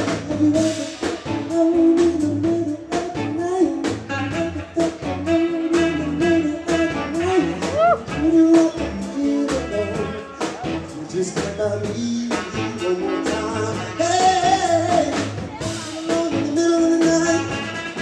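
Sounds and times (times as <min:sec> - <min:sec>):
bass guitar: 0:00.0 - 0:18.0
drum kit steady beat: 0:00.0 - 0:18.0
electric guitar: 0:00.0 - 0:18.0.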